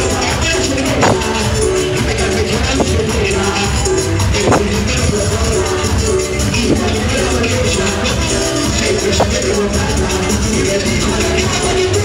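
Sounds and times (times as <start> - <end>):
live band playing loud music: 0.0 - 12.0.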